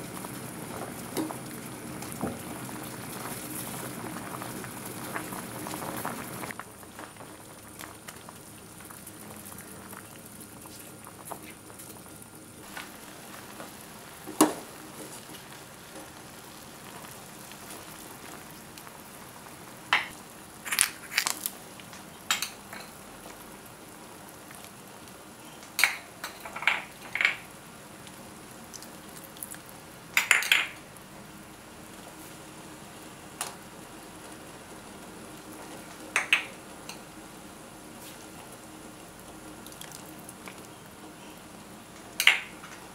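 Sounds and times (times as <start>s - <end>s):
soup bubbling in a pot: 0.0s - 42.9s.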